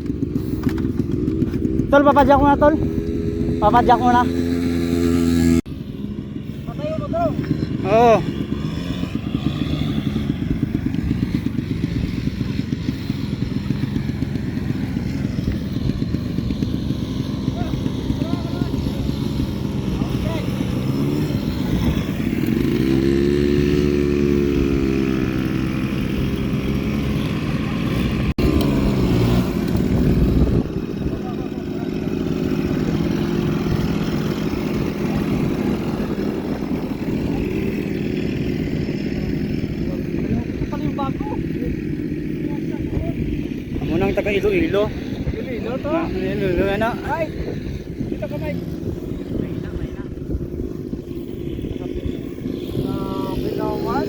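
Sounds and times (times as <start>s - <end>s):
small engine puttering: 0.0s - 54.0s.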